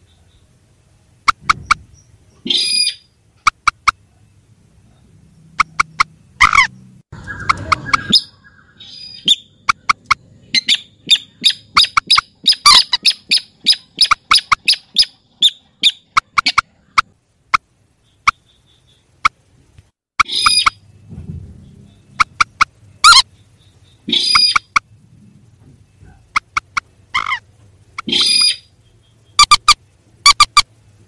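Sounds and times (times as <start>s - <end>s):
bird calls chattering: 1.2s - 19.5s, 20.2s - 30.8s.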